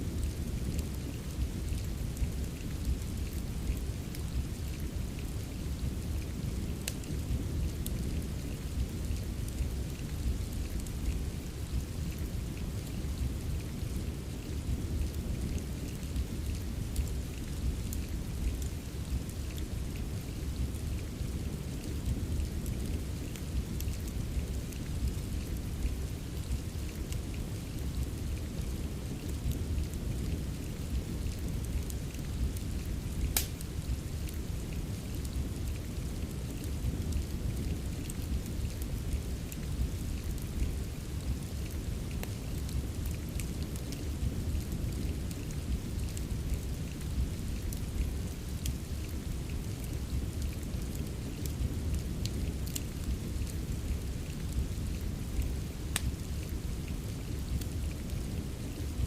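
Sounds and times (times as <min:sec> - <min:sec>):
steady rain: 0:00.0 - 0:59.0
wood fire popping and crackling: 0:00.0 - 0:59.0.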